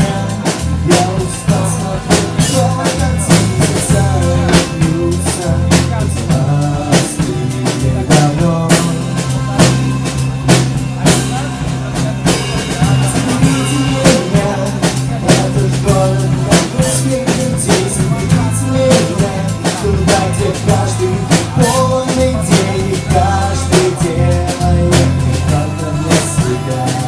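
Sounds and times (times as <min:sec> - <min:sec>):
drum kit beat: 0:00.0 - 0:27.0
live band playing: 0:00.0 - 0:27.0.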